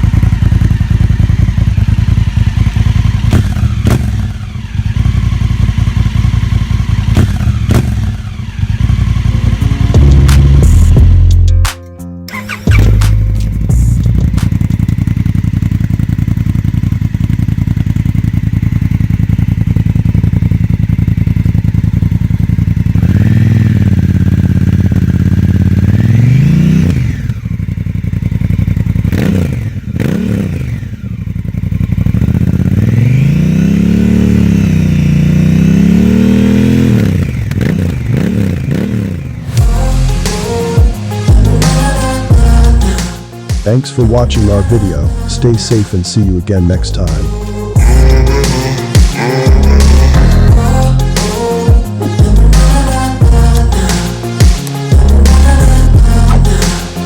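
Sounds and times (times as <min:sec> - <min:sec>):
motorcycle engine idling and revving: 0:00.0 - 0:11.7, 0:12.3 - 0:57.0.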